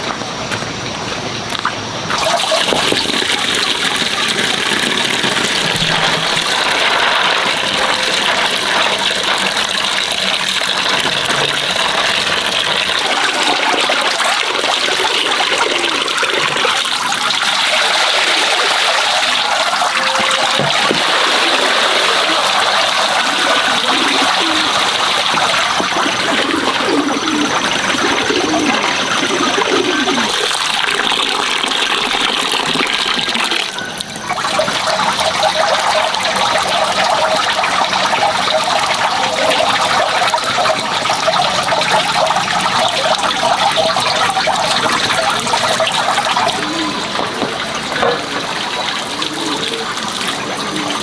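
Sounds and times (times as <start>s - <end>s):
water pouring: 1.5s - 51.0s.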